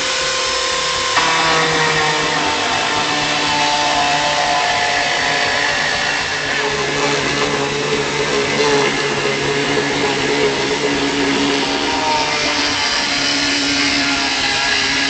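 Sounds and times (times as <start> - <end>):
electric chainsaw cutting wood: 0.0 - 15.0.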